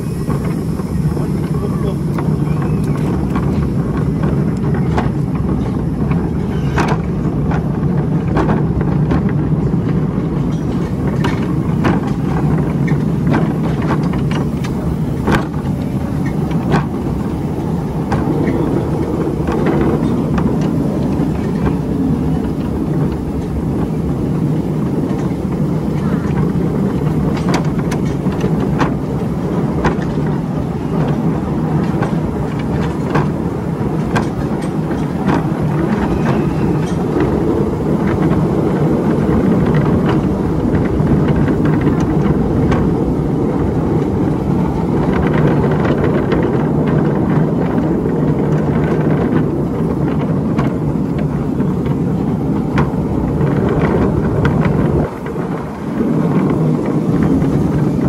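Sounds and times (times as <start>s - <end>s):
miniature train rumbling: 0.0s - 58.0s
wheels clicking on rails: 0.0s - 58.0s.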